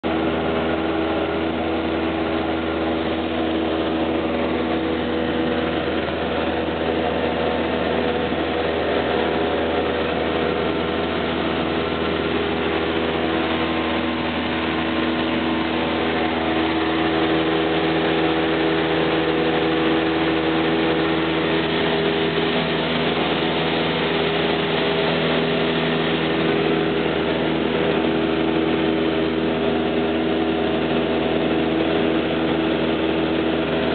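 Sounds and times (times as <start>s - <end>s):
light aircraft engine droning: 0.0s - 33.9s.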